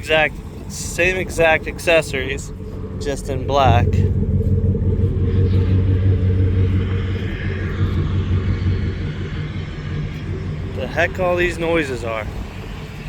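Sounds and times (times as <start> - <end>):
pickup truck engine idling: 0.0 - 13.0.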